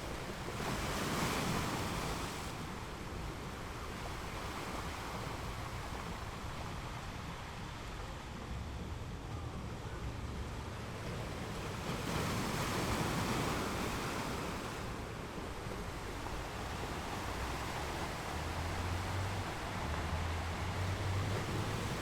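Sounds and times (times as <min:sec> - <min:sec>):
ocean waves breaking on rocks: 0:00.0 - 0:09.2, 0:10.3 - 0:22.0.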